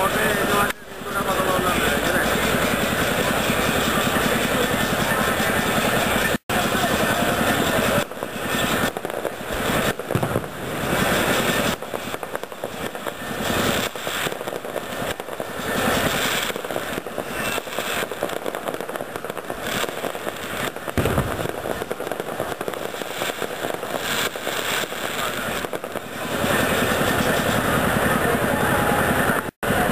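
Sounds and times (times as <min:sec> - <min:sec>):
loud firework bangs: 0:00.0 - 0:28.6
fireworks crackling: 0:00.0 - 0:29.9.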